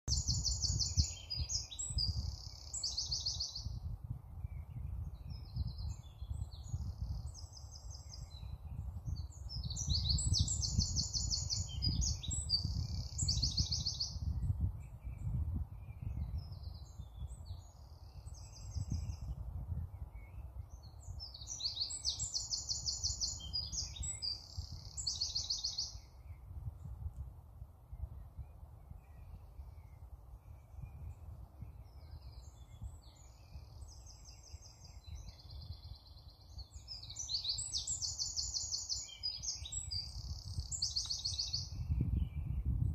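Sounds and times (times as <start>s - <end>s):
small songbirds singing: 0.0s - 27.2s, 27.8s - 42.9s.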